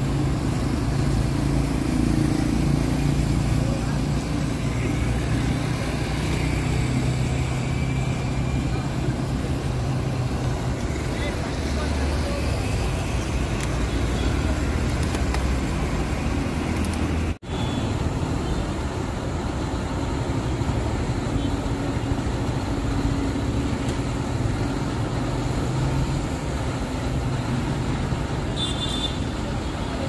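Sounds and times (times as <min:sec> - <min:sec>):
bus diesel engines idling: 0:00.0 - 0:28.6
traffic noise: 0:00.0 - 0:30.0.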